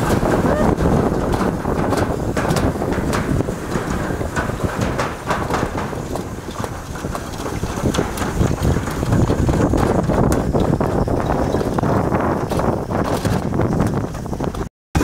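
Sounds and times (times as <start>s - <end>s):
rattles and clacks: 0.0s - 15.0s
sled rumbling down track: 0.0s - 15.0s
wind buffeting microphone: 0.0s - 15.0s.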